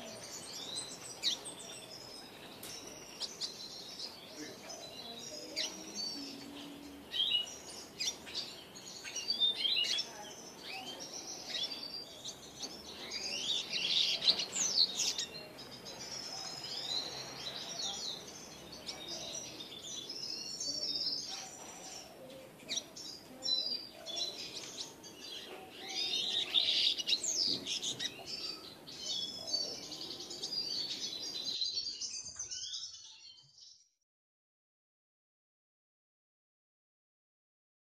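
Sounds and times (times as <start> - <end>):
bird twittering song: 0.0 - 33.9.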